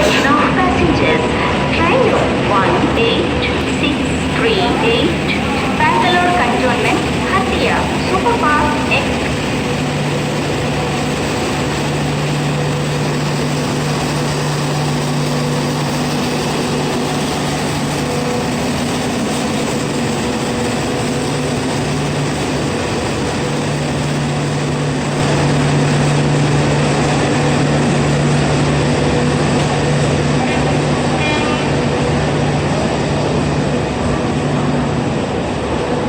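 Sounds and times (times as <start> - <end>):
train engine droning: 0.0 - 36.0.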